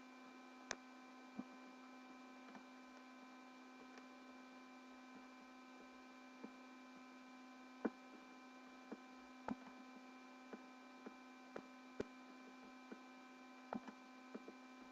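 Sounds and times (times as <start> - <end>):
faint electrical hum: 0.0 - 14.9.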